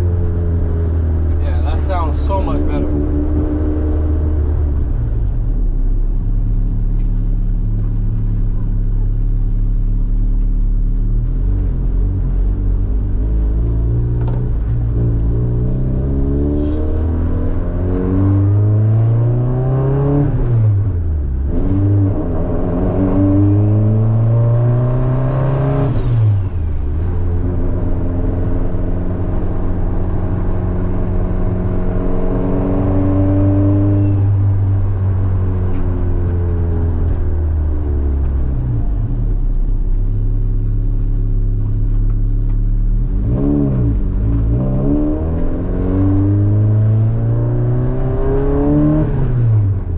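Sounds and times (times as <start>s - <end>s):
car engine while driving: 0.0s - 49.9s.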